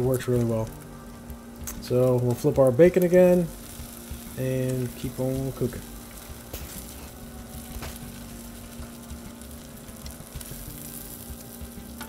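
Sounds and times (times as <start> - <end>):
bacon sizzling on a griddle: 0.0 - 12.0.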